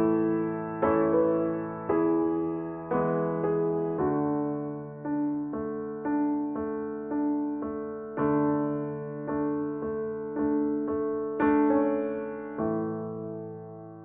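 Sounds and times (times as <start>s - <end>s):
slow piano notes: 0.0s - 14.0s.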